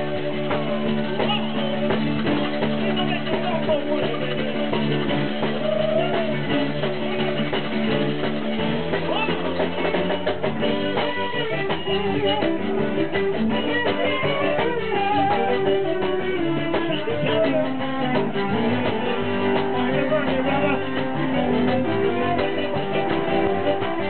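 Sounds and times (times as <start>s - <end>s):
accordion: 0.0s - 24.0s
steady drum beat: 0.0s - 24.0s.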